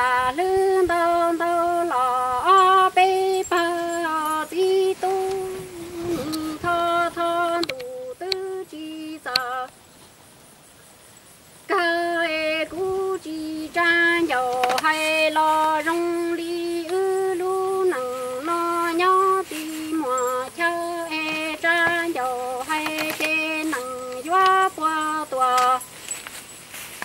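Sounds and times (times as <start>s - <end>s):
woman singing unaccompanied: 0.0s - 9.8s, 11.6s - 26.0s.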